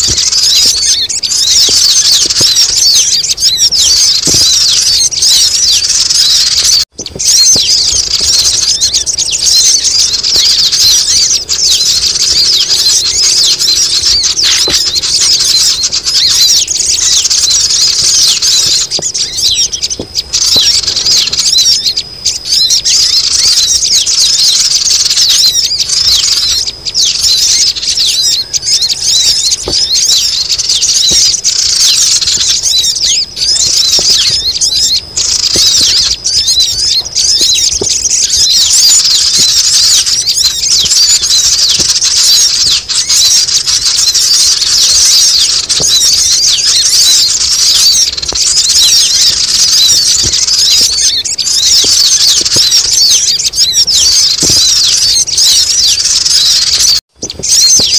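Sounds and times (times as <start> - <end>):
birds chattering: 0.0 - 57.9.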